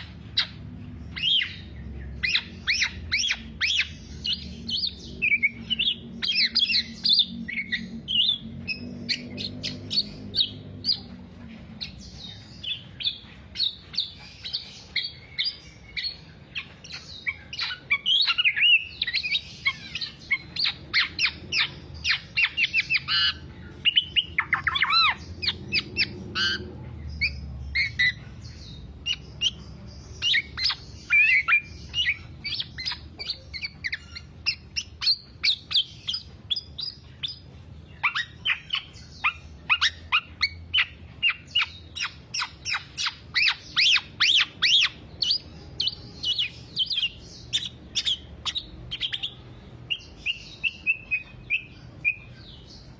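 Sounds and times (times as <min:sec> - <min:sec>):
bird singing chirps and whistles: 0:00.0 - 0:11.1, 0:11.8 - 0:52.9.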